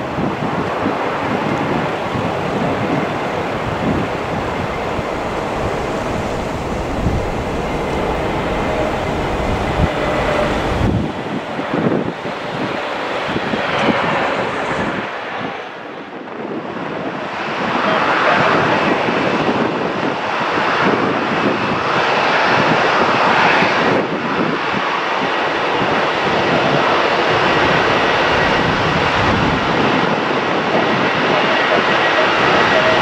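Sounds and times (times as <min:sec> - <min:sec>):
jet engine rush: 0:00.0 - 0:33.0.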